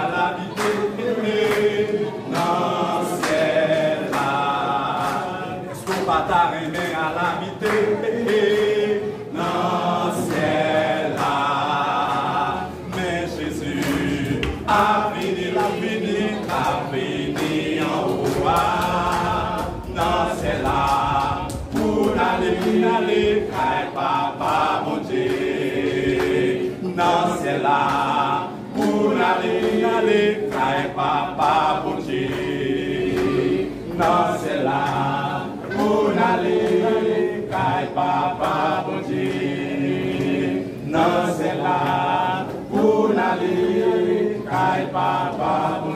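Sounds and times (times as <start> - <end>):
men singing a hymn in harmony: 0.0 - 45.9.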